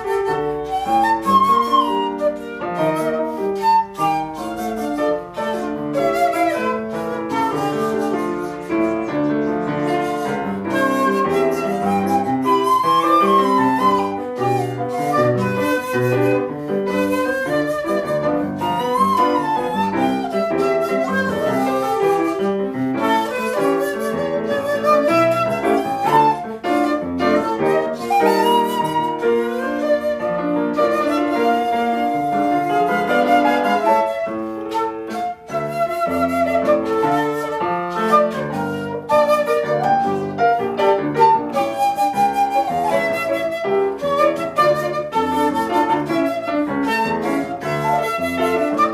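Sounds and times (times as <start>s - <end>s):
bamboo flute melody: 0.0s - 48.9s
piano accompaniment: 0.0s - 48.9s.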